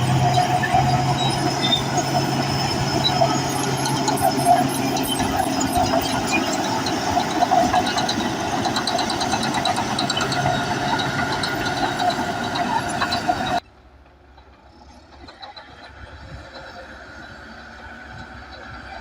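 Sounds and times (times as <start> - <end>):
bulldozer engine running: 0.0 - 19.0
crawler tracks clanking: 0.0 - 19.0.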